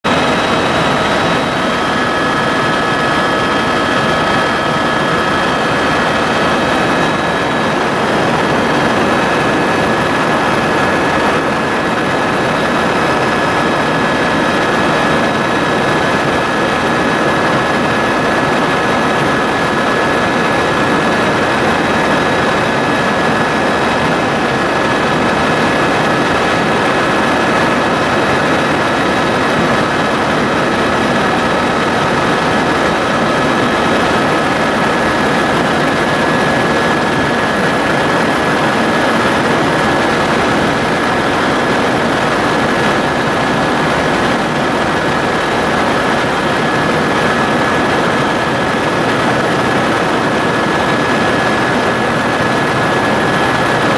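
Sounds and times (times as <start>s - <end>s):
helicopter rotor drone: 0.0s - 53.9s
high-pitched turbine whine: 0.1s - 53.9s.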